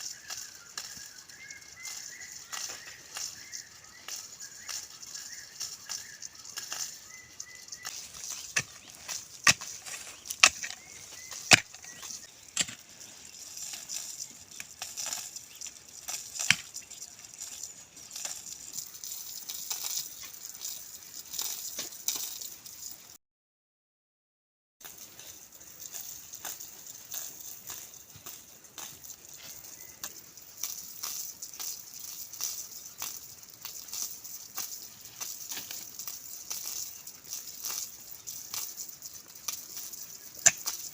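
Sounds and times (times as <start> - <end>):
faint chirps: 0.0 - 23.2, 24.9 - 40.9
steady high hiss: 0.0 - 23.2, 24.8 - 40.9.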